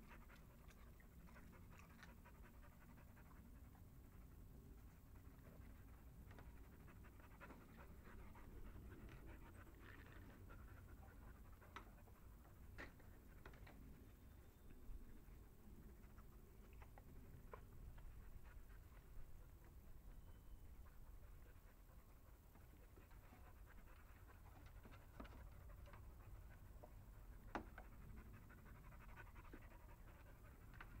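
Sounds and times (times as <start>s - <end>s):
dog panting: 0.0s - 14.1s, 15.1s - 31.0s.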